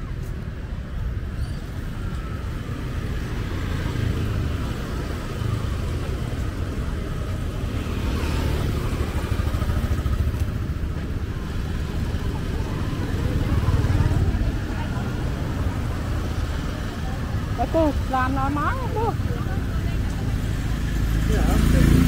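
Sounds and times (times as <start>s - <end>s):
motorcycle engine rumble: 0.0s - 22.0s
road noise: 0.0s - 22.0s.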